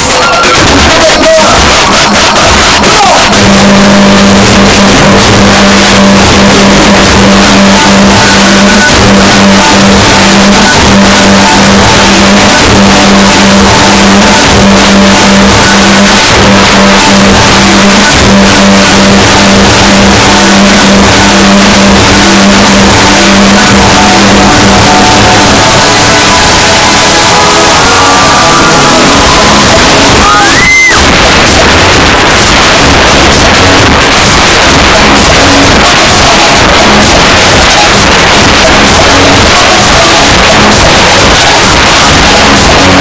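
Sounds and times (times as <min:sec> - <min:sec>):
distorted dance music: 0:00.0 - 0:43.0.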